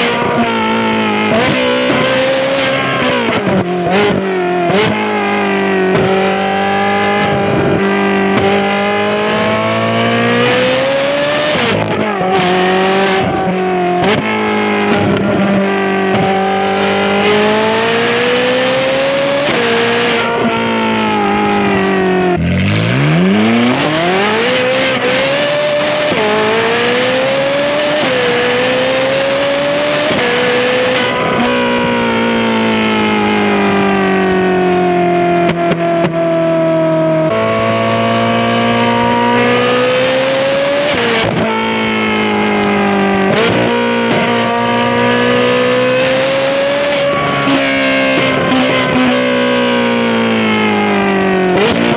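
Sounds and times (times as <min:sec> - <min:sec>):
sports car engine accelerating hard: 0:00.0 - 0:51.9.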